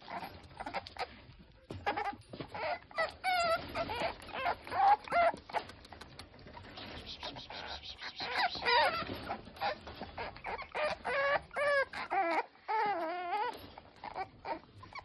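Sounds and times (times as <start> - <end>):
puppies whining and yelping: 0.0 - 15.0.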